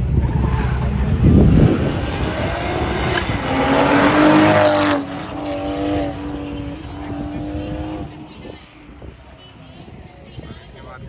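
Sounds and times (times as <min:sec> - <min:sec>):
sports car engine: 0:00.0 - 0:10.7
tyre noise: 0:00.0 - 0:10.8.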